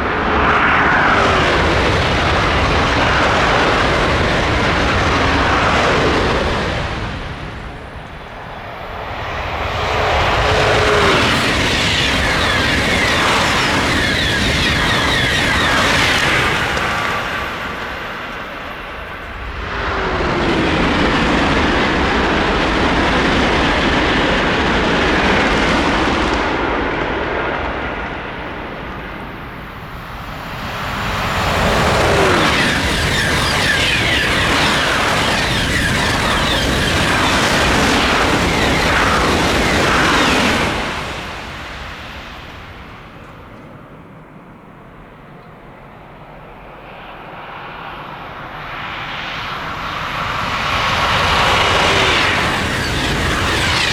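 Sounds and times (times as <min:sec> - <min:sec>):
high-speed train passing: 0:00.0 - 0:53.9.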